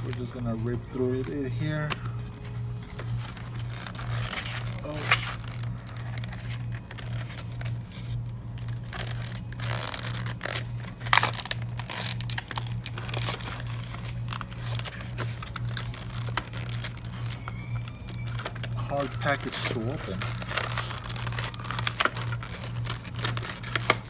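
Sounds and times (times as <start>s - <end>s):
low hum: 0.0s - 24.0s
packaging crinkling and ripping: 0.0s - 24.0s.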